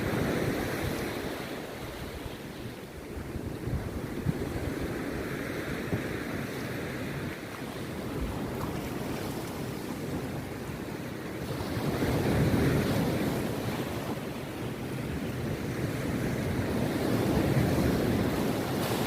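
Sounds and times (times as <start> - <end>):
sea surf breaking on beach: 0.0 - 19.0
wind buffeting microphone: 0.0 - 19.0.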